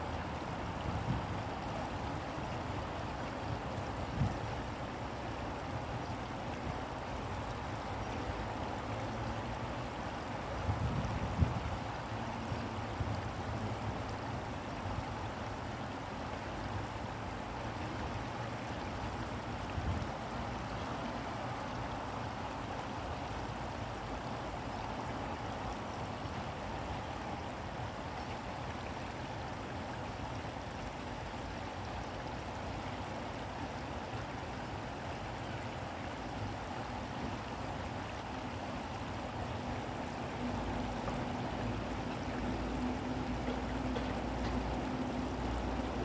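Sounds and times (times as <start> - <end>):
stream flowing over stones: 0.0 - 46.0.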